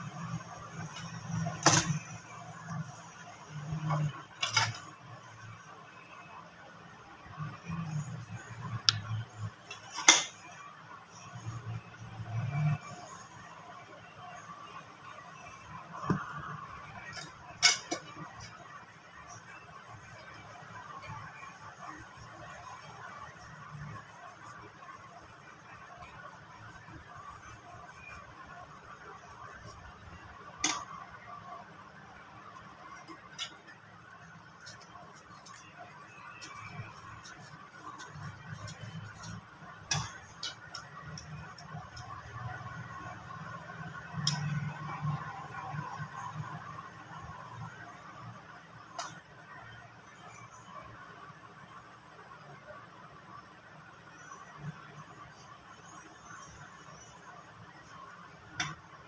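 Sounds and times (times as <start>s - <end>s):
faint background noise: 0.0s - 59.0s.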